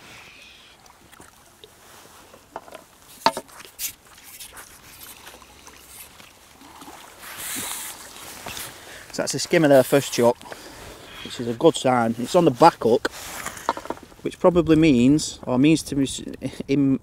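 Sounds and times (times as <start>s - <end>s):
water lapping: 0.0s - 14.5s.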